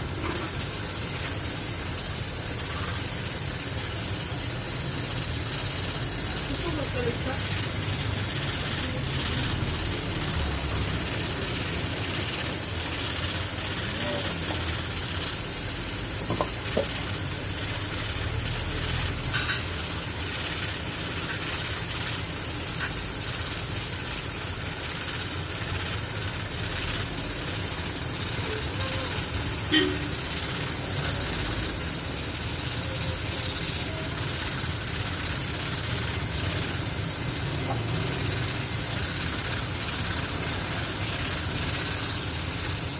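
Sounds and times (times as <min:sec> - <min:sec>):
cleaning jet spraying: 0:00.0 - 0:42.9.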